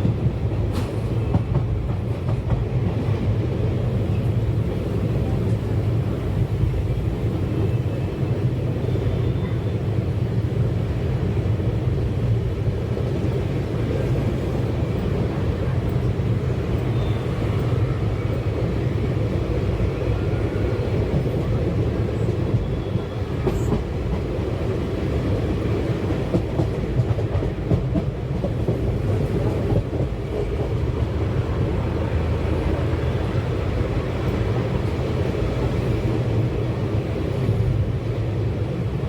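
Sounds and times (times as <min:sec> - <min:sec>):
train wheels on track: 0:00.0 - 0:39.0.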